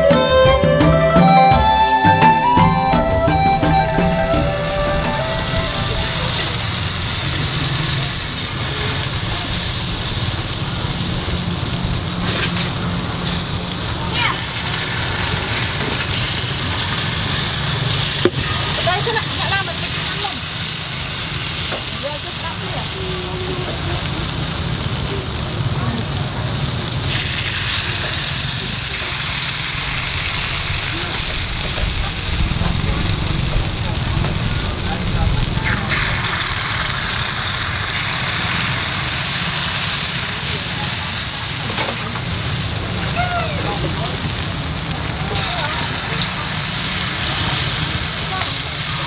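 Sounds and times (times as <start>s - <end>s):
low engine rumble: 0.0s - 18.1s, 22.0s - 48.8s
batter sizzling in hot pan: 1.6s - 49.0s.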